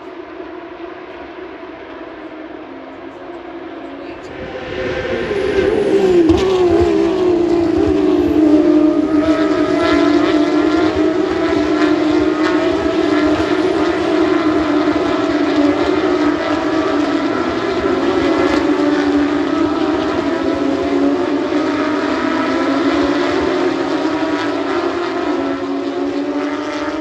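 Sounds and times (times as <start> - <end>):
race car engine at high revs: 0.0 - 27.0.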